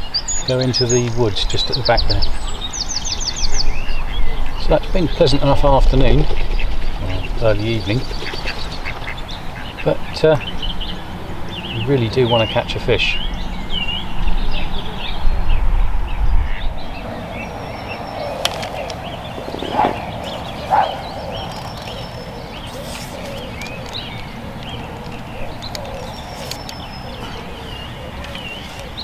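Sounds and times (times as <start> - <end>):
small birds chirping: 0.0 - 29.0
wind rumbling on microphone: 0.0 - 29.0.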